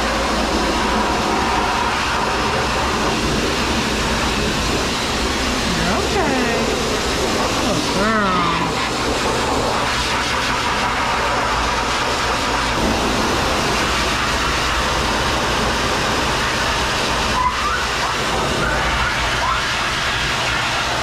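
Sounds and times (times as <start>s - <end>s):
dog grooming dryer blowing air: 0.0s - 21.0s.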